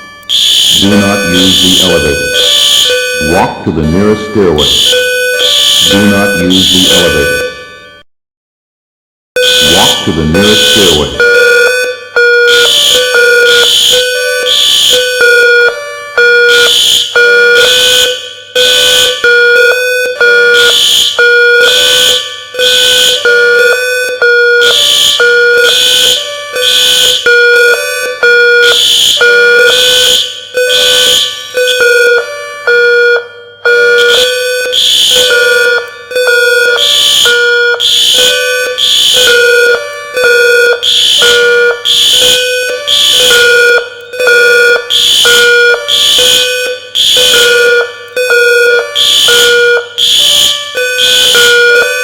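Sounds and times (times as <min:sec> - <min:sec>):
fire alarm pulsing tones: 0:00.0 - 0:08.0, 0:09.4 - 0:52.0.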